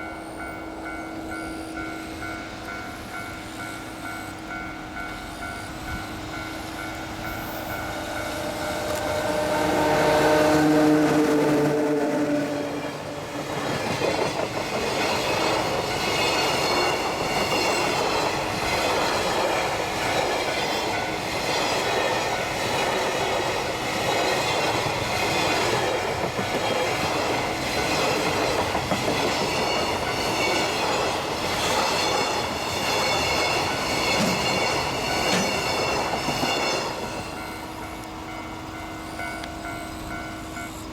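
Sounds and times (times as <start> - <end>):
electric locomotive passing: 0.0 - 40.9
train wheel clatter: 4.5 - 40.7.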